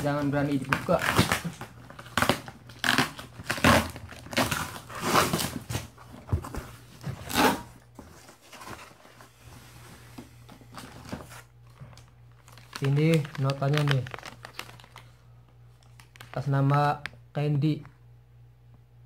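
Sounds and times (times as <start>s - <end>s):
packing paper rustling: 0.0s - 16.8s.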